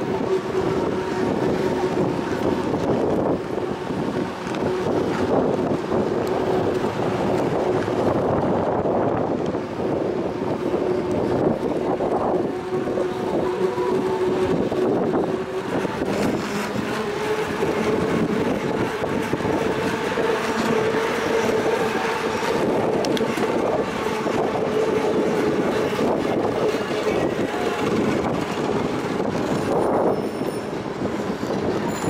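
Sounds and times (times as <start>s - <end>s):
bicycle rolling on pavement: 0.0s - 32.0s.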